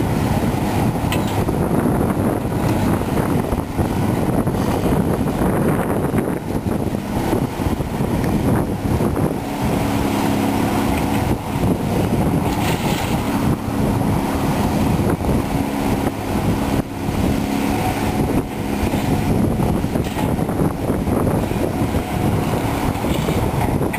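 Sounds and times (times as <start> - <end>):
excavator diesel engine under load: 0.0 - 23.9.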